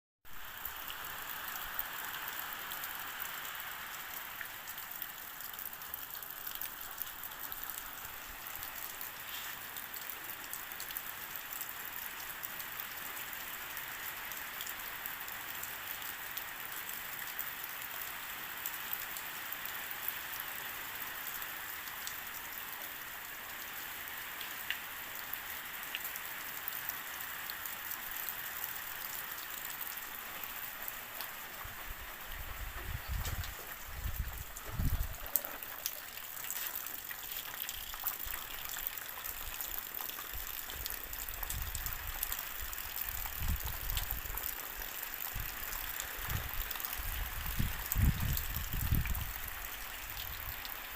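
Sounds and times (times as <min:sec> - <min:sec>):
steady rain falling: 0:00.2 - 0:50.9
sharp water drips: 0:00.3 - 0:50.9.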